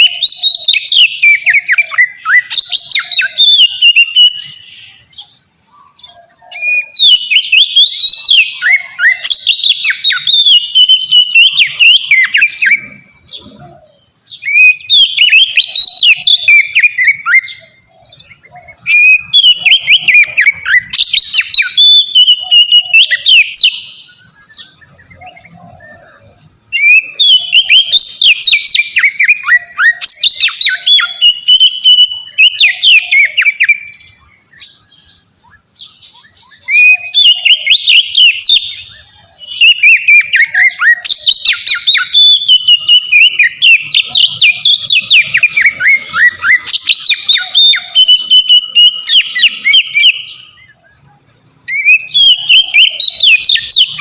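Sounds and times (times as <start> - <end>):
songbird whistling and chattering: 0.0 - 54.0.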